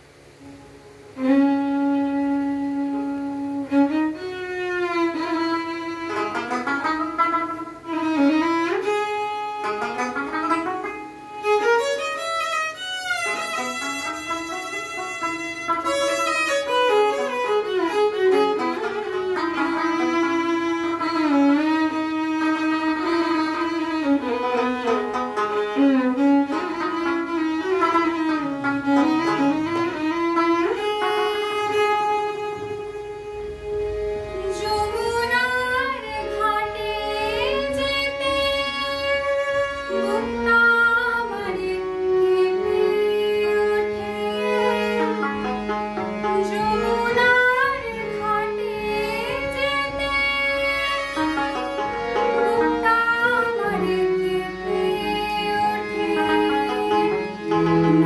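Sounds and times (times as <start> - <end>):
harmonium: 0.0 - 58.0
tenor banjo: 0.0 - 58.0
violin melody: 0.0 - 58.0.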